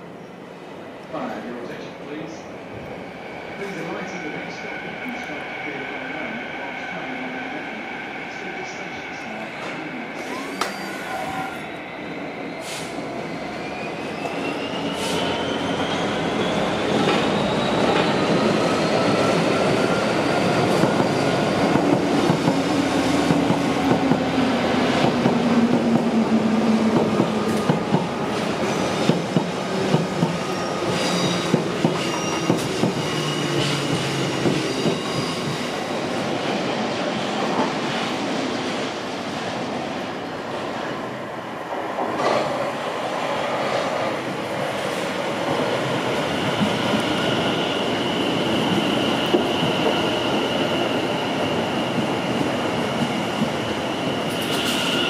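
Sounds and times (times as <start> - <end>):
train whine: 2.7 - 55.0.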